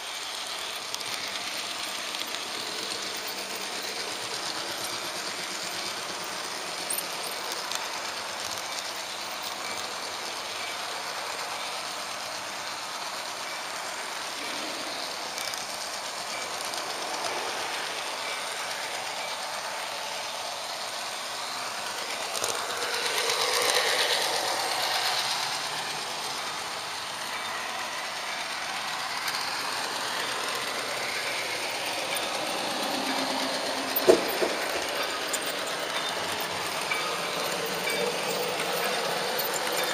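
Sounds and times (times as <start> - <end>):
model train whirring on rails: 0.0 - 39.9.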